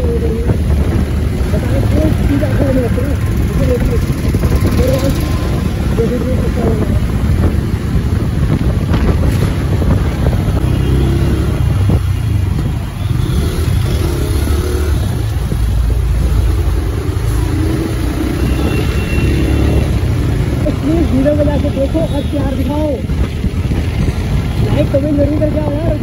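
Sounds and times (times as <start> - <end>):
wind buffeting microphone: 0.0 - 19.0, 19.8 - 26.0
motorcycle engine and road noise: 0.0 - 26.0.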